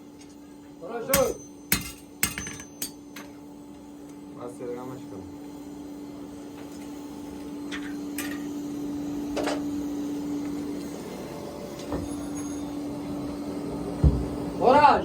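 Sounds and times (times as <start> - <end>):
machine hum: 0.7 - 15.0.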